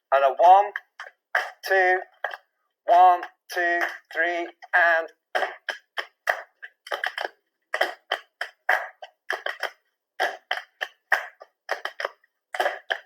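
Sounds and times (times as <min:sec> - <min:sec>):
hand claps rhythm: 0:00.8 - 0:13.0.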